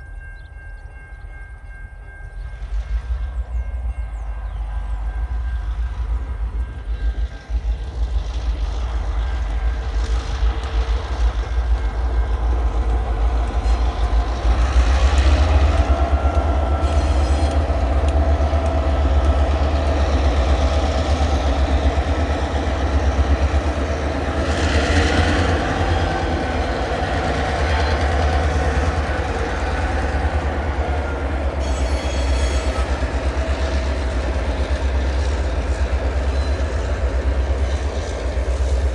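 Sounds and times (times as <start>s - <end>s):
diesel locomotive engine rumble: 0.0s - 38.9s.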